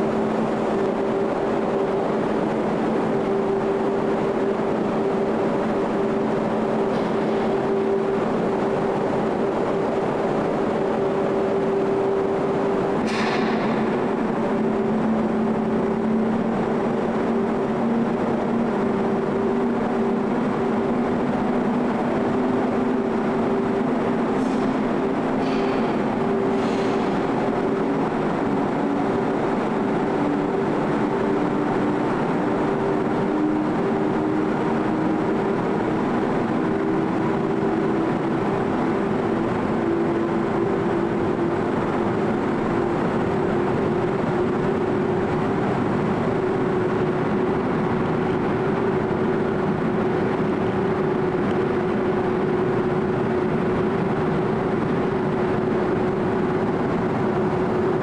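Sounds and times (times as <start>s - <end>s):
ferry engines droning: 0.0s - 58.0s.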